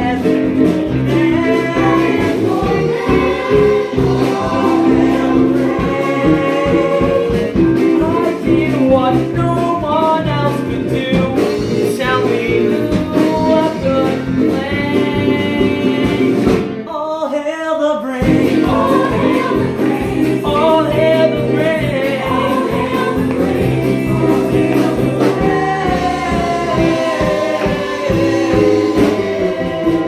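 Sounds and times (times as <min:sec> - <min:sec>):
instrumental backing: 0:00.0 - 0:17.0, 0:18.2 - 0:30.0
person singing a song: 0:00.0 - 0:30.0.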